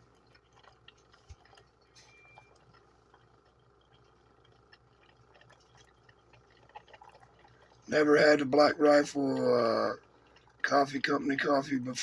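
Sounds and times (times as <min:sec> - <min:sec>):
coffee dripping into cup: 0:00.0 - 0:12.0
coffee maker humming: 0:00.0 - 0:12.0.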